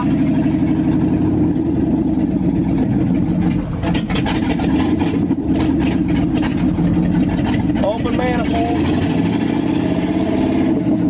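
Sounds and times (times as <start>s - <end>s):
loud truck engine running: 0.0s - 11.0s.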